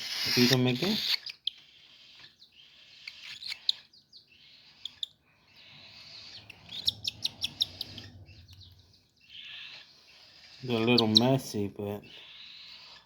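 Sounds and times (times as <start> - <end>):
baby cockatiels chirping: 0.0 - 13.0.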